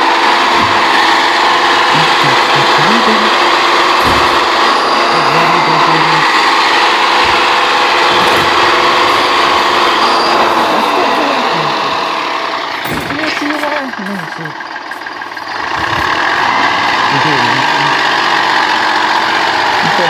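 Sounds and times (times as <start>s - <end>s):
tractor engine running hard: 0.0s - 20.0s.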